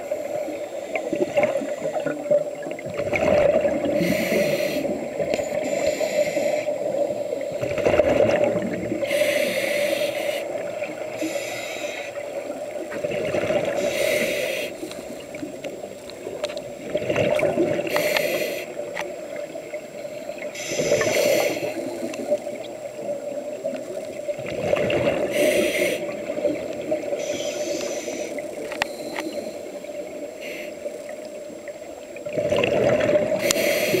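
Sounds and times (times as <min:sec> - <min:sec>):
regulator breathing hiss and bubbles: 0:00.0 - 0:34.0.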